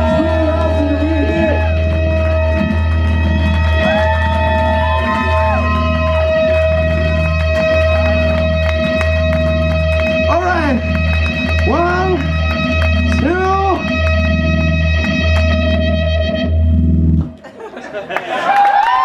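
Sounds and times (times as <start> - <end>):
electric guitar long note: 0.0 - 17.2
low bass drone: 0.0 - 17.4.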